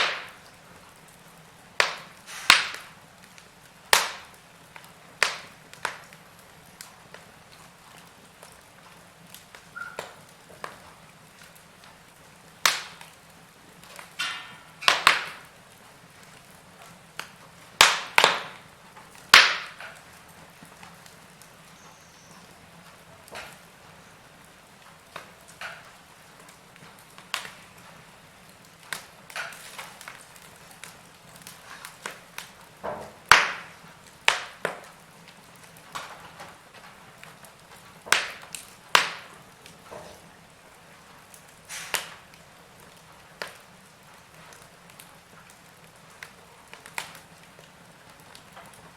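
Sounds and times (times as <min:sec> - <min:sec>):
faint steady hiss: 0:00.0 - 0:48.9
wood fire crackling: 0:00.0 - 0:48.9.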